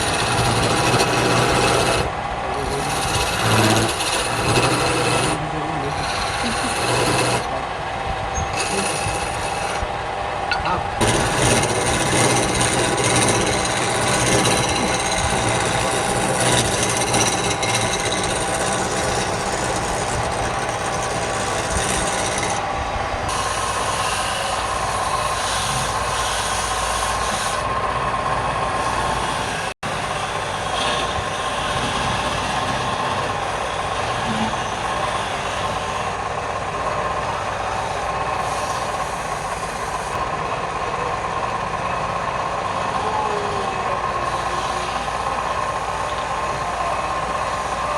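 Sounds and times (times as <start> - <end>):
tool scraping spinning wood: 0.0 - 7.7, 8.3 - 40.3, 42.0 - 47.9
lathe motor hum: 0.0 - 47.9.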